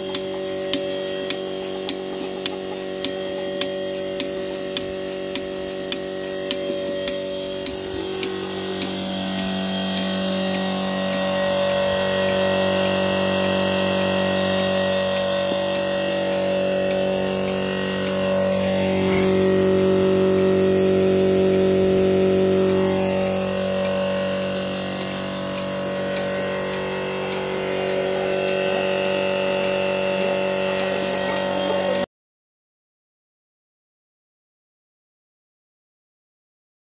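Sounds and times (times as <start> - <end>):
milking machine motor humming: 0.0 - 32.1.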